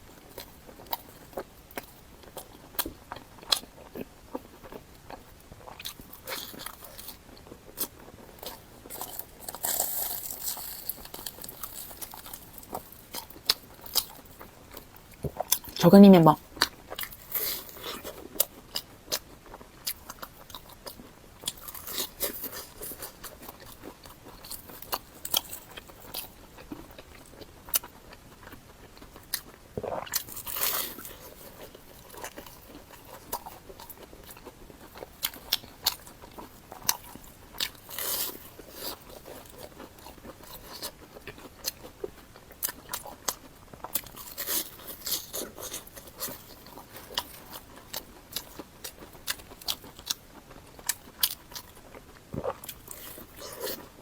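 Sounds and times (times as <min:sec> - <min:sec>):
bread chewing and crunching: 0:00.0 - 0:54.0.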